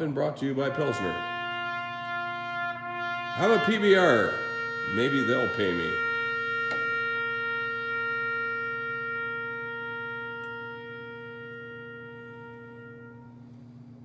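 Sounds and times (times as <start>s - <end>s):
wind instrument long note: 0.0s - 13.6s
low steady drone: 0.0s - 14.0s.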